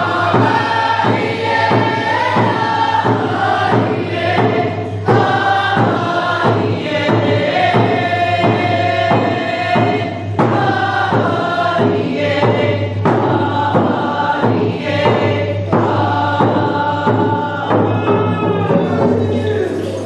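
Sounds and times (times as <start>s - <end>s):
group chanting in unison: 0.0s - 19.3s
drum beats: 0.0s - 20.0s.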